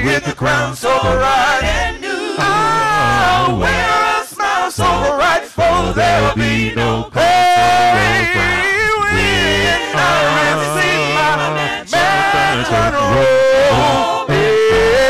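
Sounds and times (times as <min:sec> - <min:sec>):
a cappella group singing: 0:00.0 - 0:15.0.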